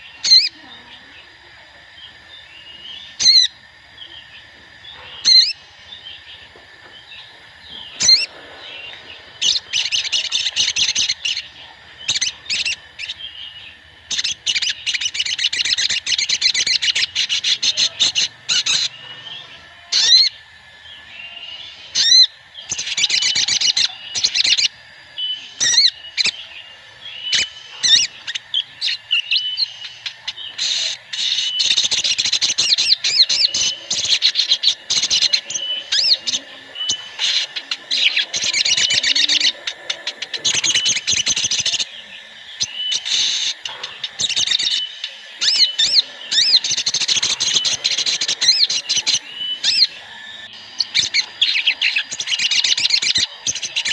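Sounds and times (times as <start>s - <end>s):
sunbirds chirping and twittering: 0.0s - 53.9s.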